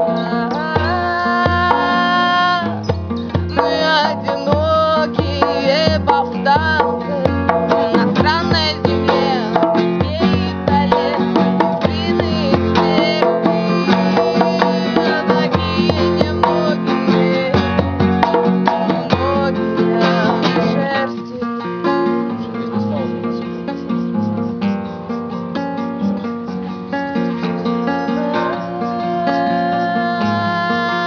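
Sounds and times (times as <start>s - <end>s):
person singing with vibrato: 0.0s - 24.7s, 26.6s - 31.0s
acoustic guitar strumming: 0.0s - 31.0s
hand drum beat: 0.0s - 31.0s.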